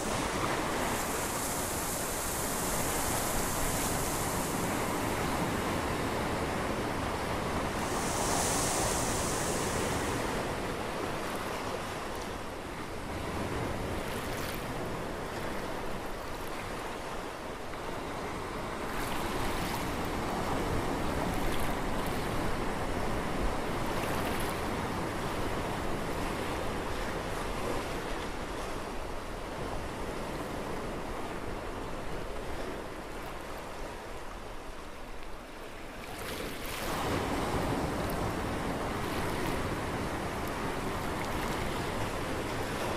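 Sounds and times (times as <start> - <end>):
ocean water rushing: 0.0 - 42.9.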